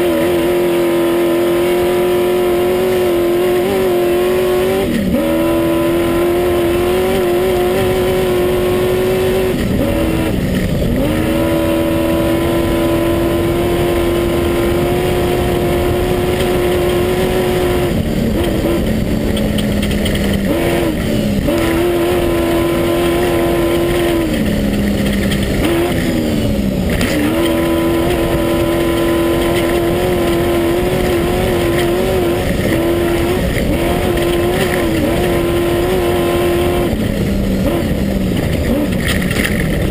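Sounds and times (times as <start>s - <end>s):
constant noisy rush: 0.0s - 39.9s
racing engine revving: 0.0s - 39.9s.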